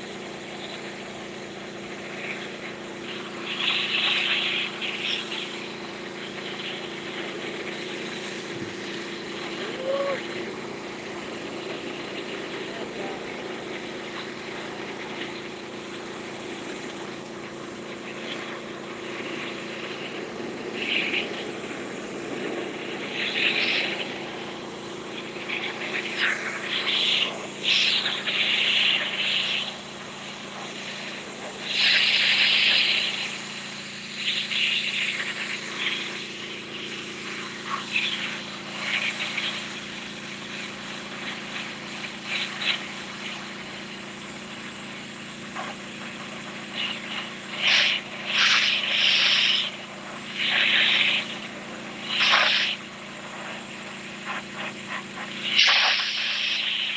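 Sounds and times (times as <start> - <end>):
hissing high-pressure spray: 0.0 - 56.9
pressure washer engine running: 0.0 - 56.9.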